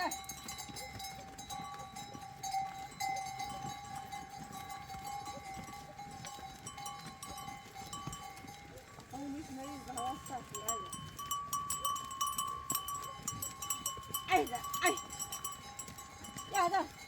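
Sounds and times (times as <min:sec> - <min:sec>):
livestock bells ringing: 0:00.0 - 0:17.0.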